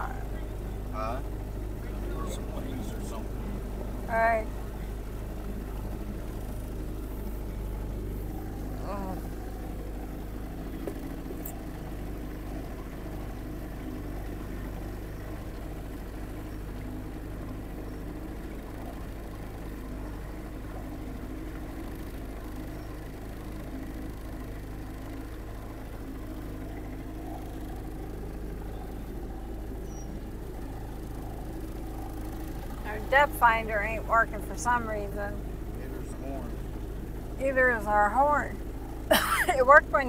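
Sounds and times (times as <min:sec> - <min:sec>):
boat motor droning: 0:00.0 - 0:40.0.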